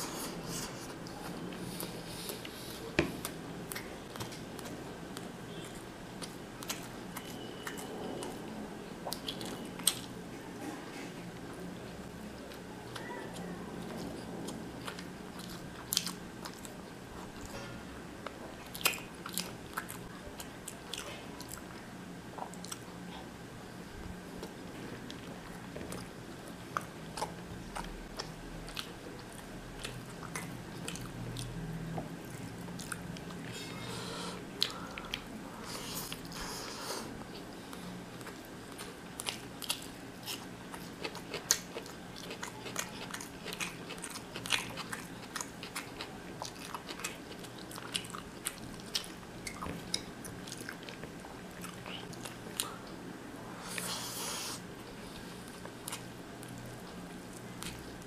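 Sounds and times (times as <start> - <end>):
person chewing food: 0.0 - 8.4, 9.0 - 10.2, 11.4 - 23.3, 24.4 - 53.0, 53.6 - 58.0
faint low hum: 0.0 - 58.0.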